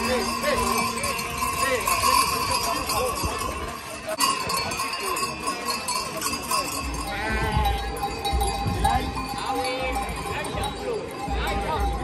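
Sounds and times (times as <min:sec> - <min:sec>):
cowbells clanking: 0:00.0 - 0:12.0.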